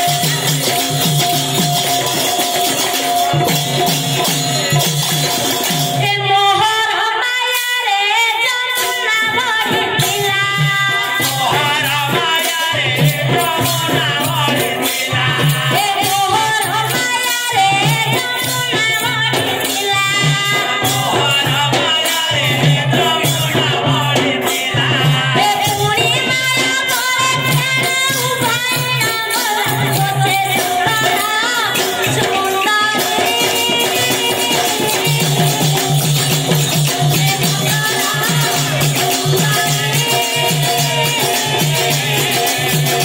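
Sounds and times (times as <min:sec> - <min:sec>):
jingling hand percussion: 0:00.0 - 0:43.0.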